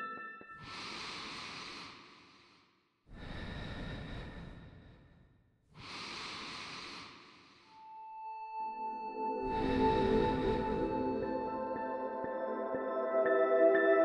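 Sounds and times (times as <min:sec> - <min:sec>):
slow deep breathing: 0:00.5 - 0:12.2.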